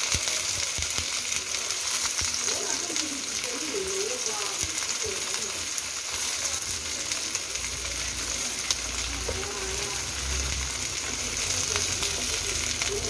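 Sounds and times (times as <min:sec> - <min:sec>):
tofu sizzling in oil: 0:00.0 - 0:13.0.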